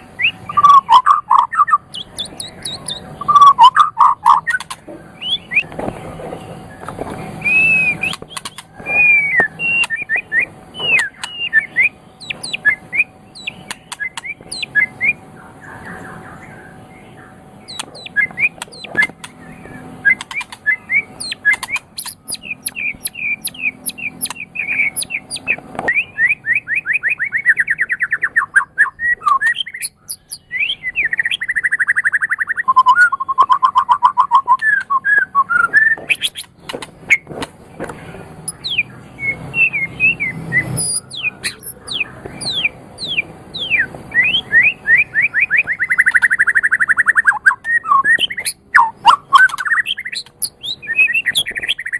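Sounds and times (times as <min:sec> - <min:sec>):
bird singing whistled notes: 0:00.0 - 0:05.7, 0:06.7 - 0:15.3, 0:15.9 - 0:36.5, 0:38.4 - 0:51.9
bird rattling trills: 0:00.2 - 0:15.2, 0:17.6 - 0:26.0, 0:26.7 - 0:37.5, 0:39.7 - 0:51.9.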